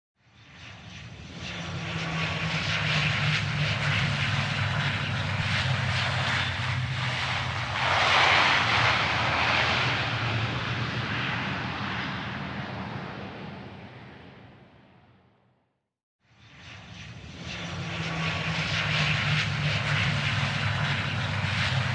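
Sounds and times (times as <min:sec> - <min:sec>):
airplane engine passing: 0:00.4 - 0:15.4, 0:16.3 - 0:21.9.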